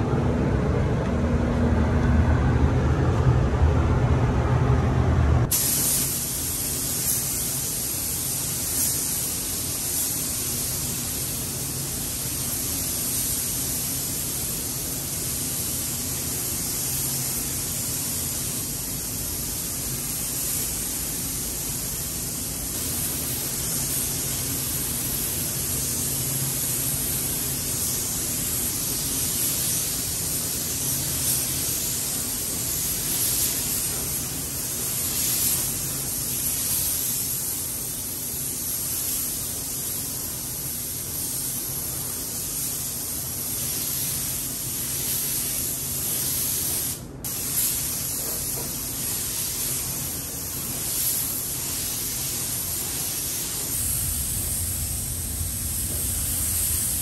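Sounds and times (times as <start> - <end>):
paint spray gun hissing: 5.5 - 57.0.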